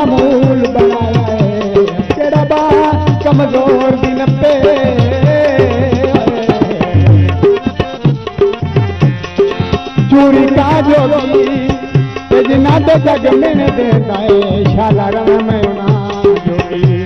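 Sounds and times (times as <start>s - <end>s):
hand drums: 0.0s - 17.0s.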